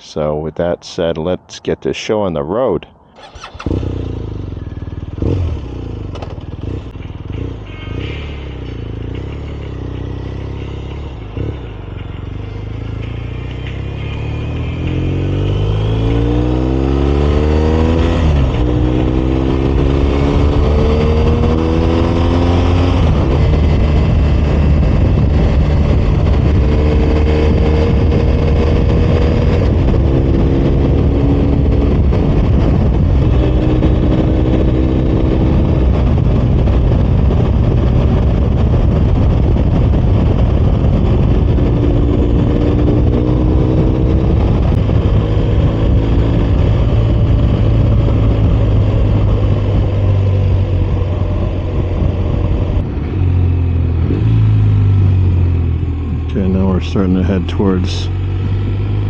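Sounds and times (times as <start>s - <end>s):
wind and road rush: 0.0s - 59.0s
motorcycle engine accelerating: 3.2s - 59.0s.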